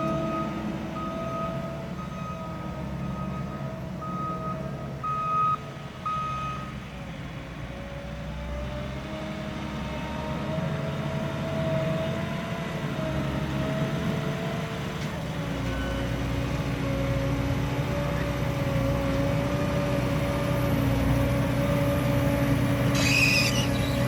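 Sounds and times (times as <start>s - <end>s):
harvester engine with whining machinery: 0.0s - 24.0s.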